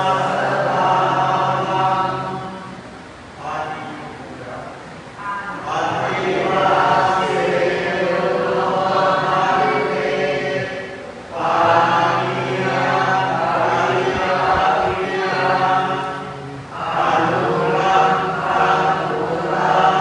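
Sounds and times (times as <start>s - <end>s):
group chanting in unison: 0.0s - 3.8s, 5.2s - 20.0s.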